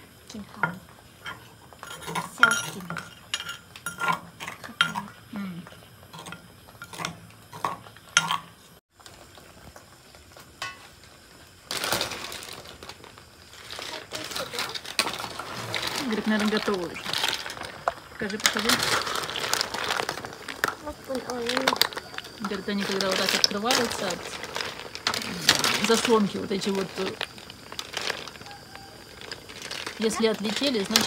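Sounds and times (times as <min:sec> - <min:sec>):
boiling pot hissing: 0:00.0 - 0:31.0.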